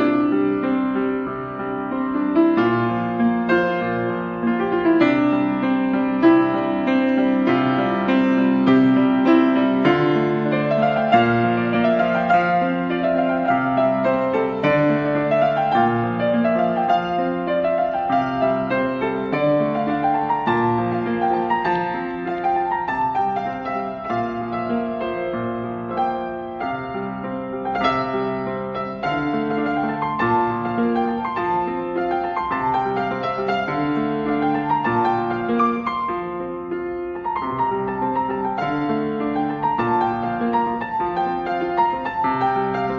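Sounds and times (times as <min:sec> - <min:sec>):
gentle solo piano: 0:00.0 - 0:42.9.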